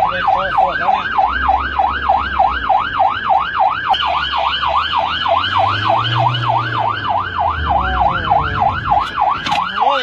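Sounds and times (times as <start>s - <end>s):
ambulance siren yelping: 0.0s - 10.0s
low vehicle rumble: 1.0s - 9.9s.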